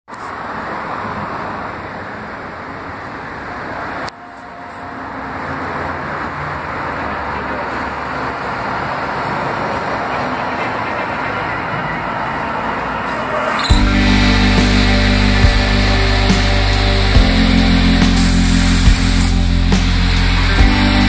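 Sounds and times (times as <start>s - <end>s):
machinery humming: 0.5s - 21.0s.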